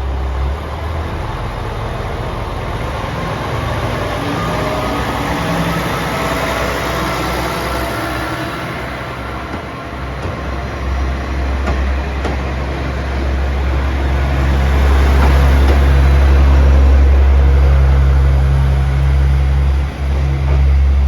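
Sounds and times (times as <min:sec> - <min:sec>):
diesel railcar engine drone: 0:00.0 - 0:21.0.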